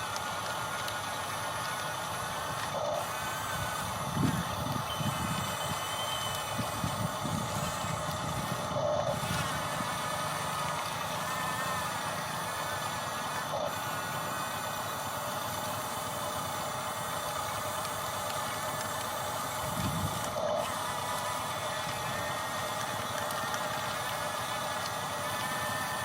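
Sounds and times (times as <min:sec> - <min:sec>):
machine mechanical hum: 0:00.0 - 0:26.0.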